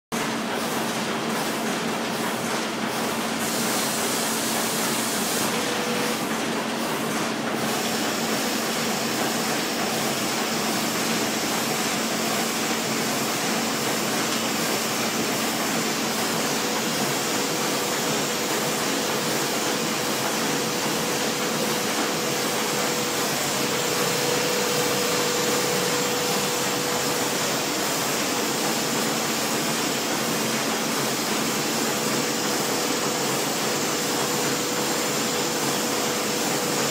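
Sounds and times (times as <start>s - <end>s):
laminating machine whirring: 0.4s - 36.9s.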